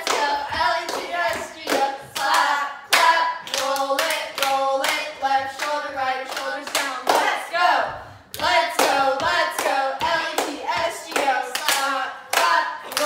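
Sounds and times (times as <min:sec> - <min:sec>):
girls chanting a cheer: 0:00.0 - 0:13.0.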